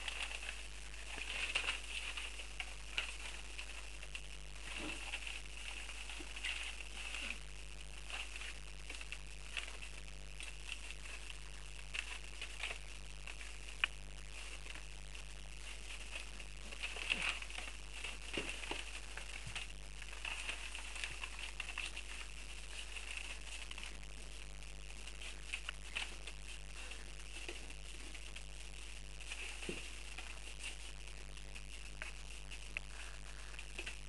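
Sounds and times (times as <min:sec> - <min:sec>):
rustling of paper: 0:00.0 - 0:34.0.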